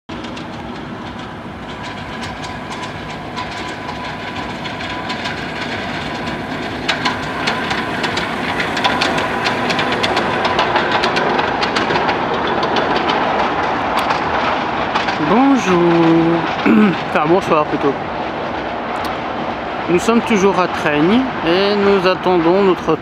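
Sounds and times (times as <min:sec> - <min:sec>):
train wheels clicking over rail joints: 0:00.1 - 0:22.7.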